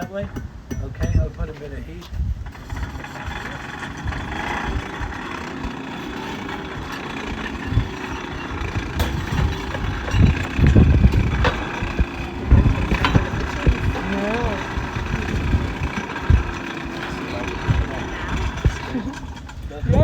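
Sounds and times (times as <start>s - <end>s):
low rumbling: 0.6s - 20.0s
forge blower fan humming: 1.7s - 20.0s.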